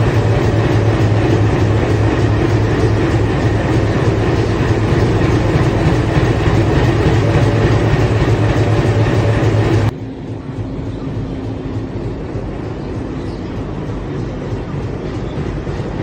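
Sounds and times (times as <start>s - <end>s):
train rumble with wheel clatter: 0.0s - 16.0s.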